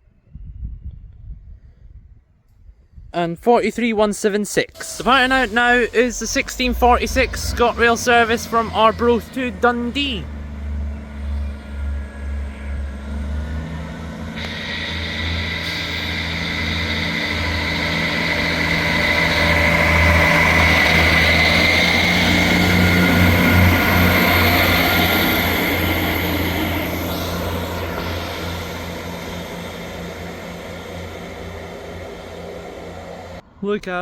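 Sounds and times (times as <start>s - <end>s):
diesel train engines accelerating: 3.5s - 33.8s.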